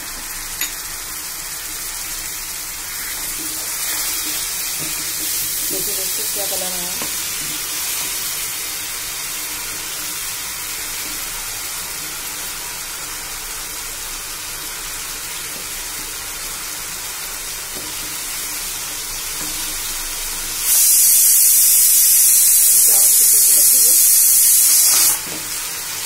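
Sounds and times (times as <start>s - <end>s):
masala sizzling in a pan: 0.0s - 26.0s.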